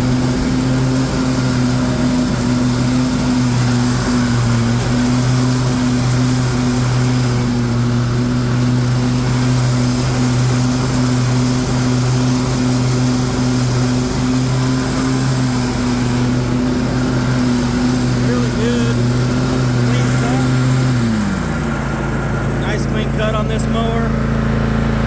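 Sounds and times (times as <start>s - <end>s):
riding mower engine running: 0.0s - 25.0s.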